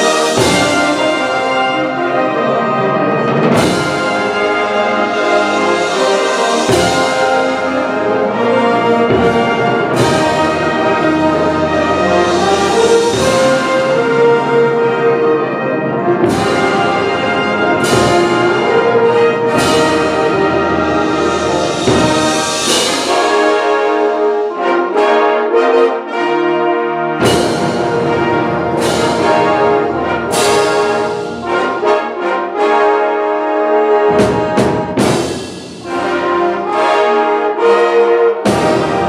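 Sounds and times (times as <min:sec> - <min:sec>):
concert band playing: 0:00.0 - 0:39.0.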